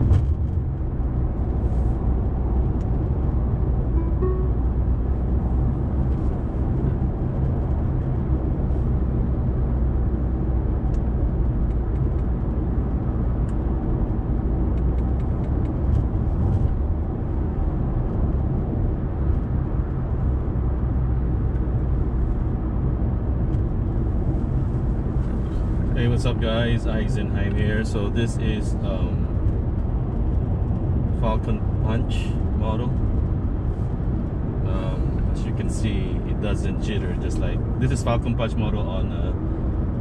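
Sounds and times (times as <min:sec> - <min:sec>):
road and tyre noise in car cabin: 0:00.0 - 0:40.0.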